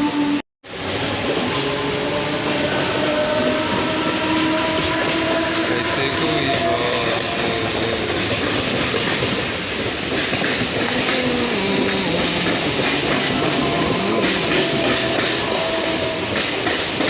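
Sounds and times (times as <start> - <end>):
electric train rumbling on rails: 0.0 - 17.0.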